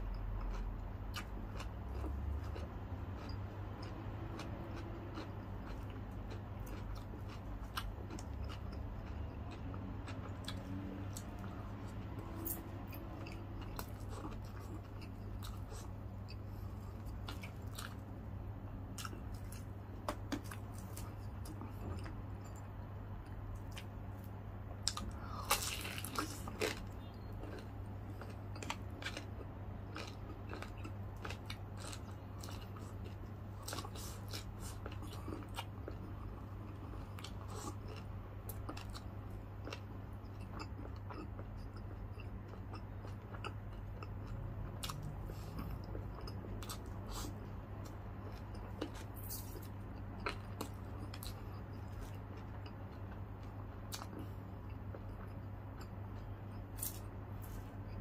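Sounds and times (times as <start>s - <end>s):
crunching and chewing food: 0.0s - 58.0s
steady low hum: 0.0s - 58.0s.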